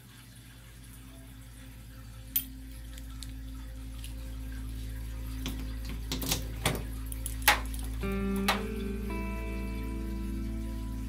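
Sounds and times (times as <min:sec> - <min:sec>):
steady low drone: 0:01.3 - 0:11.0.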